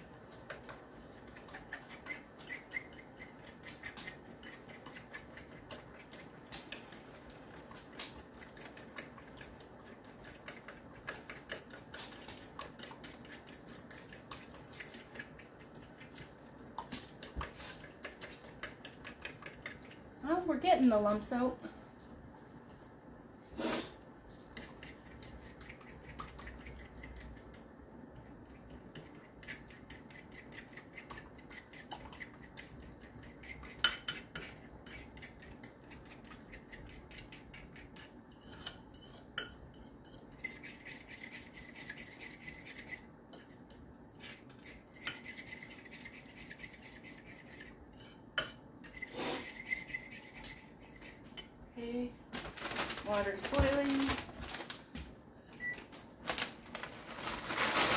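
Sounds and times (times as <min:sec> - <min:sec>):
utensil stirring in bowl: 0:00.0 - 0:22.1, 0:23.6 - 0:51.7.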